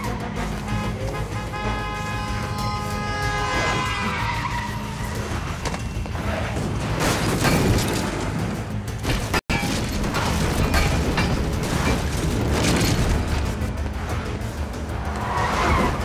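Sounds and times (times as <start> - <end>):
dramatic orchestral score: 0.0 - 16.0.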